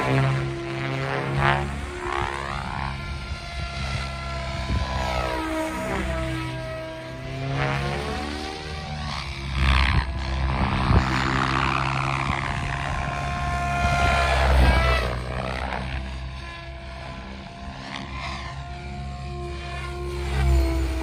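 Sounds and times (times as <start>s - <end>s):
electric motor whine: 0.0s - 21.0s
rc helicopter rotor whoosh: 0.0s - 21.0s.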